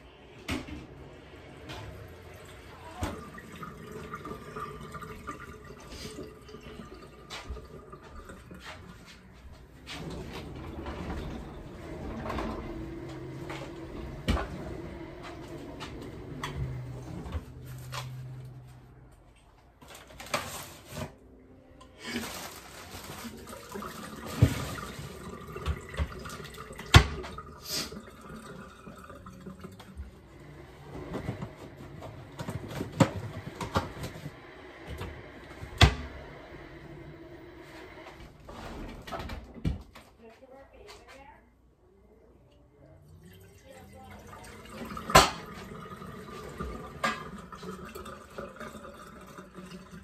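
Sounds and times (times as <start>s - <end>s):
water running at sink: 0.4s - 18.7s, 21.9s - 38.5s, 42.8s - 50.0s.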